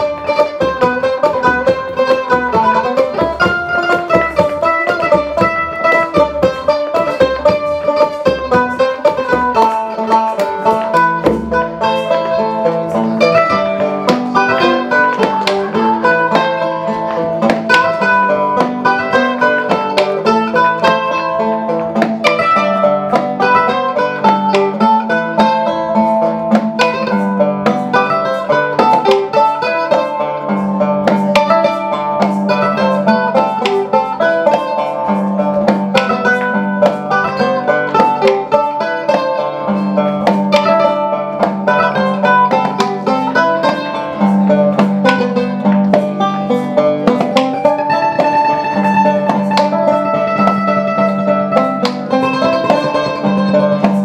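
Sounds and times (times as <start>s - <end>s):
folk band playing: 0.0s - 54.0s.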